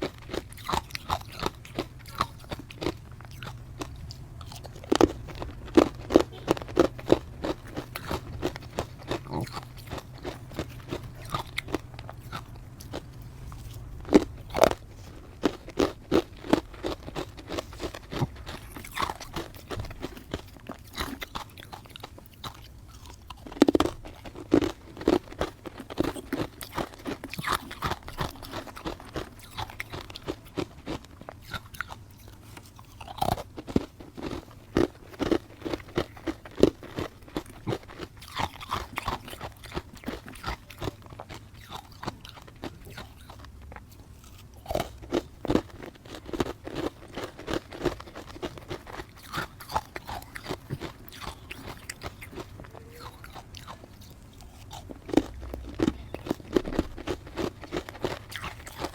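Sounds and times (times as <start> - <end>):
crunchy chewing of ice: 0.0 - 58.9.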